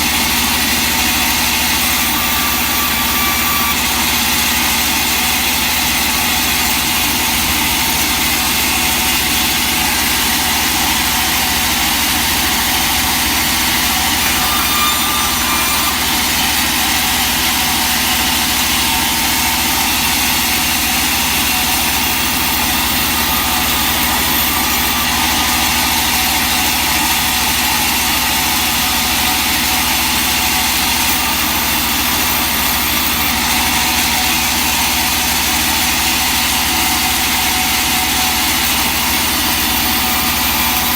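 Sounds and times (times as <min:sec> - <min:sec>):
sawmill machinery droning: 0:00.0 - 0:40.9.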